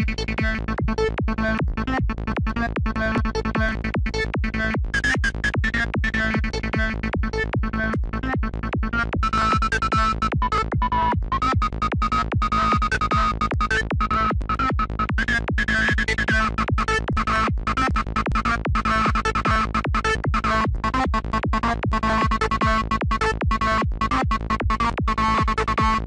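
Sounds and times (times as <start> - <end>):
synthesizer lead looping pattern: 0.0 - 26.0.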